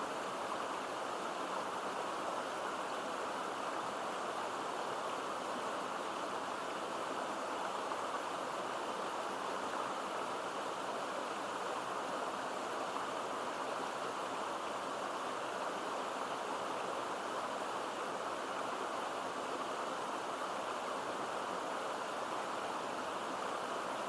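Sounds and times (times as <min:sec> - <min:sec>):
stream babbling: 0:00.0 - 0:24.0.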